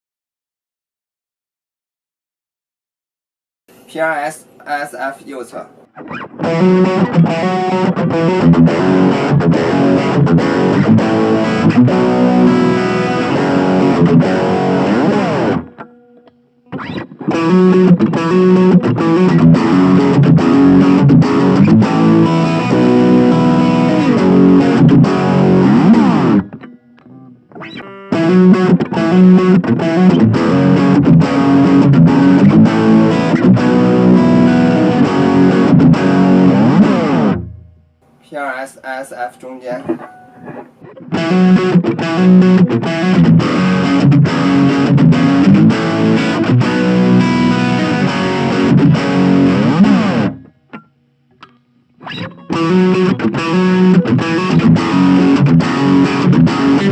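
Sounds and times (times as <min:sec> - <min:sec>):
distorted electric guitar: 0:05.7 - 0:38.4, 0:39.2 - 0:56.9.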